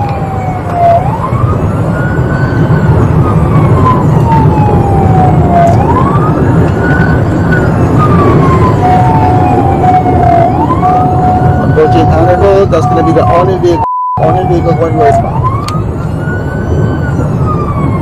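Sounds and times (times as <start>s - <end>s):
siren wailing: 0.0s - 18.0s
vehicle engine and road noise: 0.0s - 18.0s.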